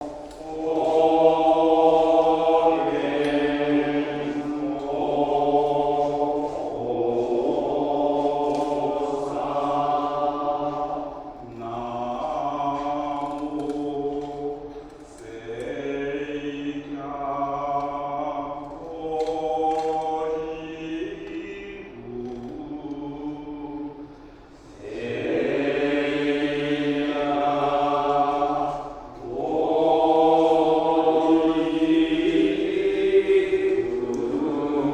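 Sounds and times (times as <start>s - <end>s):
monks chanting together: 0.0s - 34.9s.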